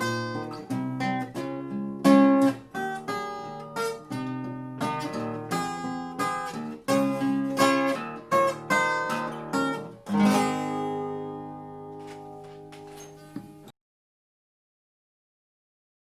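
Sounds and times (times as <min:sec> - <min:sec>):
acoustic guitar strumming: 0:00.0 - 0:13.7.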